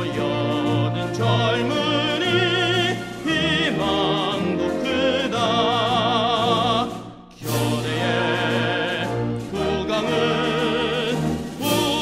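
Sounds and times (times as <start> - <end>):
operatic singing with orchestra: 0.0 - 12.0.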